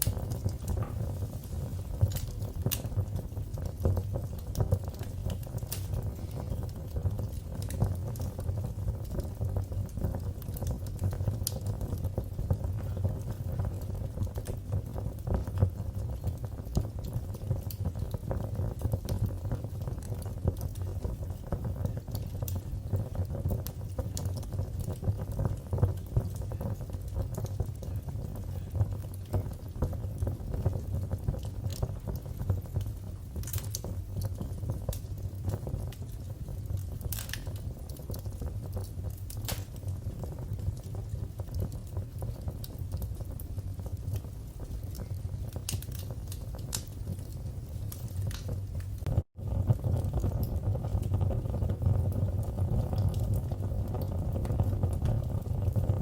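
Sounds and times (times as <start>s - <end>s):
sharp pops of fire: 0.0s - 56.0s
wood fire crackling: 0.0s - 56.0s.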